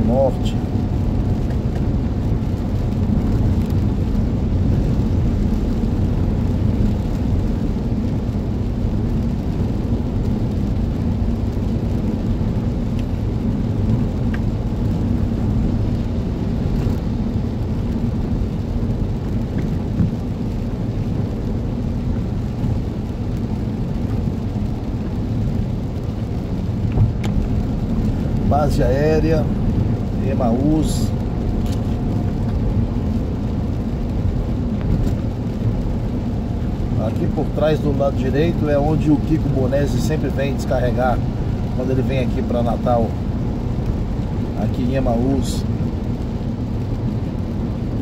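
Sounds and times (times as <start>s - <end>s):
car engine and tyres on wet road: 0.0s - 48.0s
rain on car: 0.0s - 48.0s.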